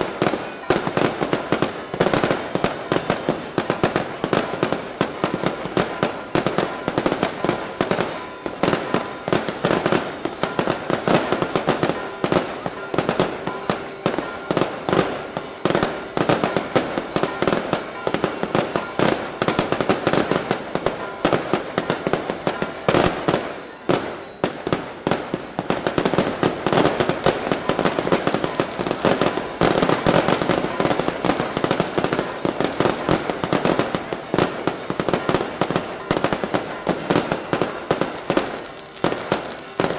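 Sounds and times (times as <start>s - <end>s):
firecracker bangs: 0.0s - 39.9s.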